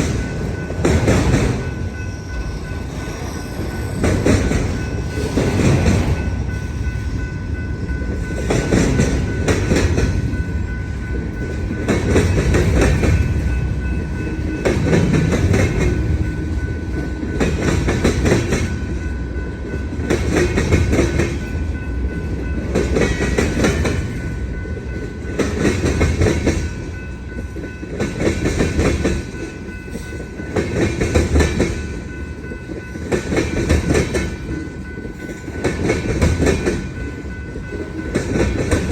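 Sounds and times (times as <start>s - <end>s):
faint ringing tone from wheels: 0.0s - 38.9s
train rumble: 0.0s - 38.9s
train wheels clattering over crossing: 0.0s - 38.9s.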